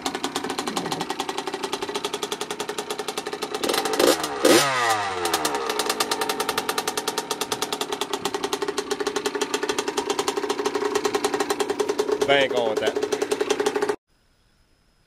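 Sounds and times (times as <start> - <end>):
two-stroke engine idling and revving: 0.0 - 14.0.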